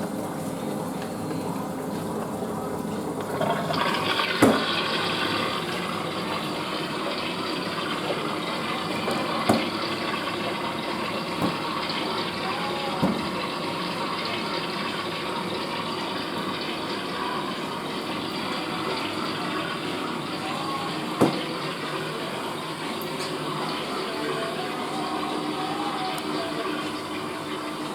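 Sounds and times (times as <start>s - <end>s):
toilet refilling with water: 0.0s - 27.9s.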